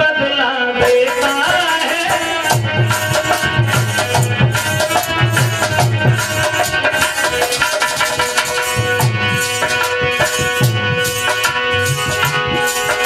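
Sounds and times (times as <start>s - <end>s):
hand drum beat: 0.9s - 13.0s
keyboard melody notes: 1.1s - 13.0s.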